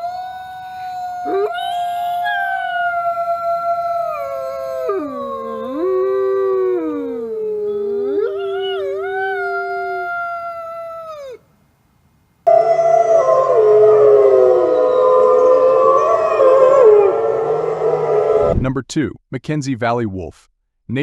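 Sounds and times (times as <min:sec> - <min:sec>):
wolves howling: 0:00.0 - 0:11.4, 0:12.5 - 0:18.5.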